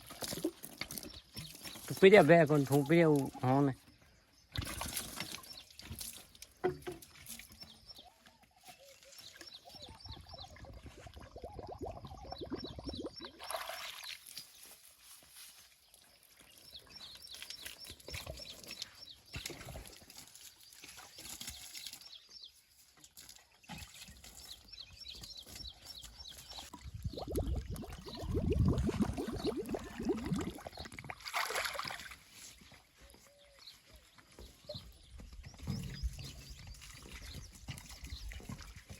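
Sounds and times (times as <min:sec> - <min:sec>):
water trickling and splashing: 0:00.0 - 0:03.8, 0:04.4 - 0:32.9, 0:35.6 - 0:38.9.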